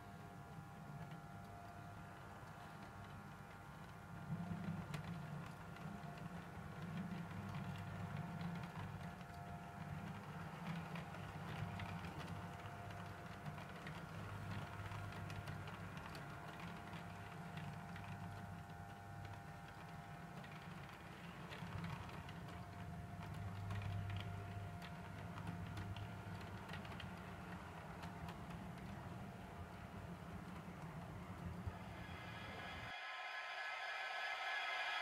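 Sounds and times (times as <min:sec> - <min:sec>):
model train motor humming: 0:00.0 - 0:35.0
wheels clicking over track joints: 0:03.1 - 0:31.6.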